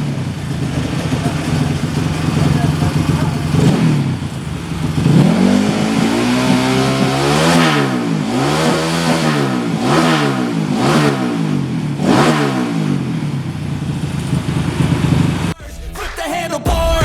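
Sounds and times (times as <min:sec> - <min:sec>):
dirt bike engine revving: 0:00.0 - 0:15.6.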